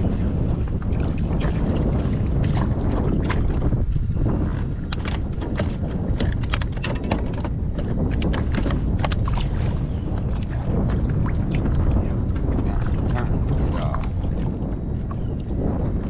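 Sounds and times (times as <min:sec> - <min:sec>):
water lapping against kayak: 0:00.0 - 0:16.0
wind rumbling on microphone: 0:00.0 - 0:16.0.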